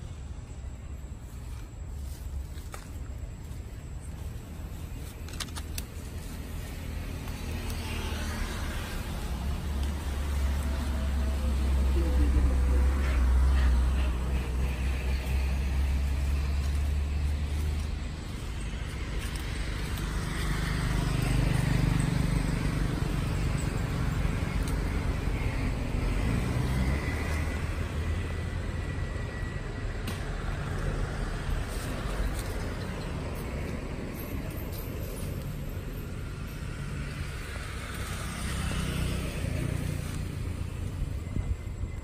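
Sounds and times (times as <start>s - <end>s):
low rumble of road traffic: 0.0s - 42.0s.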